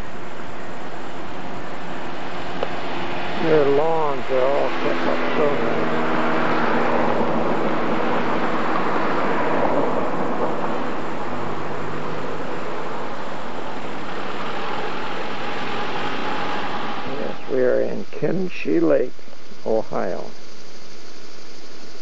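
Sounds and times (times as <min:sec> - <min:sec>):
vehicle driving slowly: 0:00.0 - 0:18.6.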